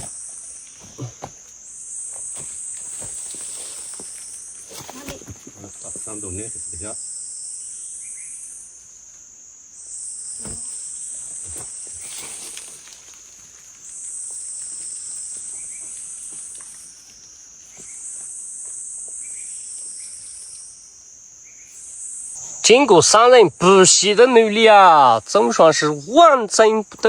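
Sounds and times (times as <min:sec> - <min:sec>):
insects singing shrill chorus: 0:00.0 - 0:27.0.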